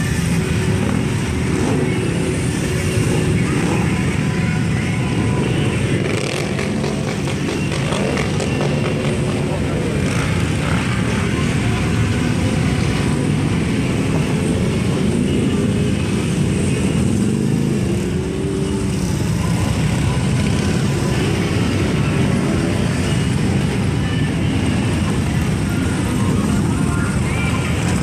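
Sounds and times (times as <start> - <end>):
motorcycle engines rumbling: 0.0 - 28.0.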